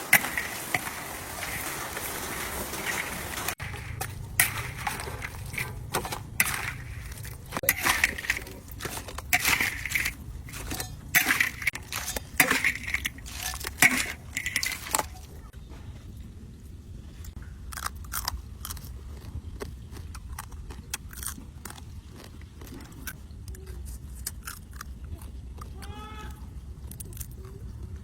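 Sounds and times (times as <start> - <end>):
crab shells cracking: 0.0 - 15.4, 17.6 - 25.9.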